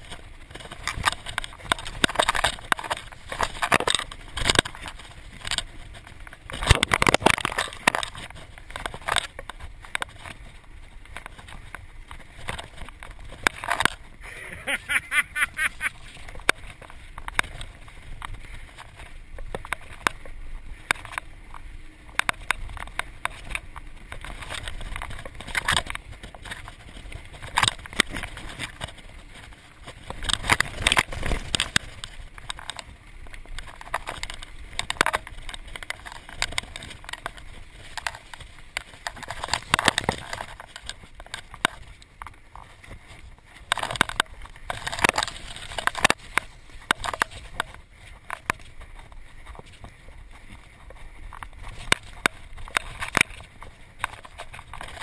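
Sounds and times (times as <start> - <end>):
mountain bike rattling: 0.0 - 55.0.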